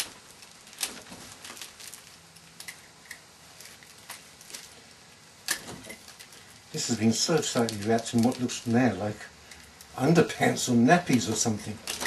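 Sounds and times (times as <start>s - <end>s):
cloth wrapping rustling: 0.0s - 12.0s.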